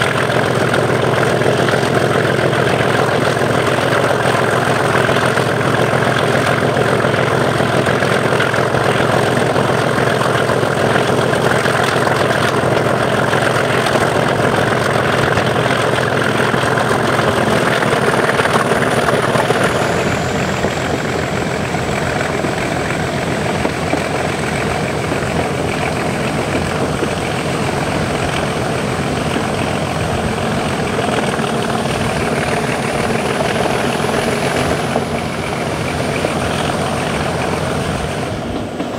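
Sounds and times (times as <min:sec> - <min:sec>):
diesel locomotive engine working hard: 0:00.0 - 0:38.9.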